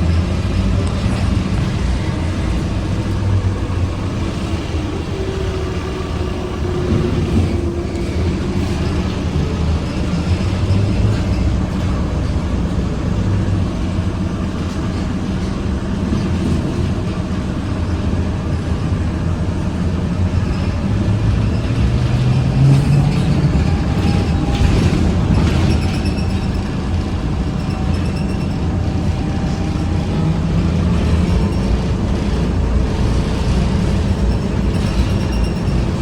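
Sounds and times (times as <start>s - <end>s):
trolleybus motor and road rumble: 0.0s - 36.0s.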